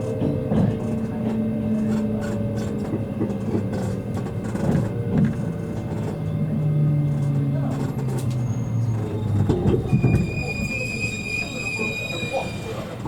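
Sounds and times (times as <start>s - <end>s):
train running gear rumble: 0.0s - 13.0s
traction motor whine: 1.6s - 13.0s.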